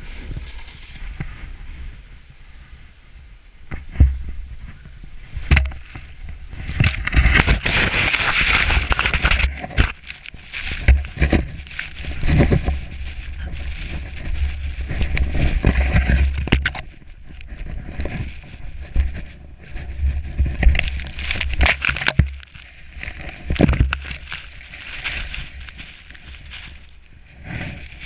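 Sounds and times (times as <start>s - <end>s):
snow slab crunching and knocking: 3.8s - 28.0s
sliding snow rushing hiss: 5.2s - 28.0s.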